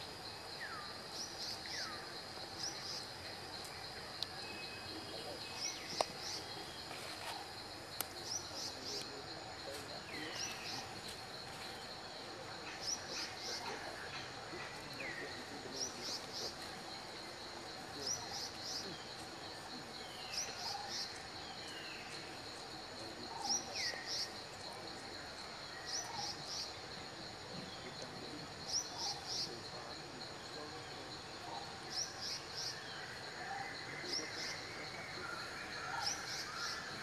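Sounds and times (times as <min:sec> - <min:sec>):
insect whine: 0:00.0 - 0:37.0.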